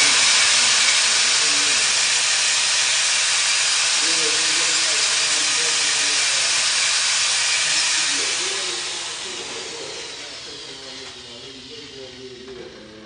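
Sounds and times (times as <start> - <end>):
welding arc hissing and crackling: 0.0 - 12.5.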